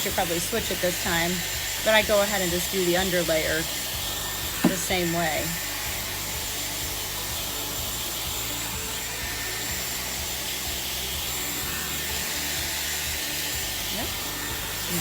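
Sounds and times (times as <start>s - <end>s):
hair styler air rushing: 0.0s - 15.0s
high-pitched motor whine: 0.0s - 15.0s.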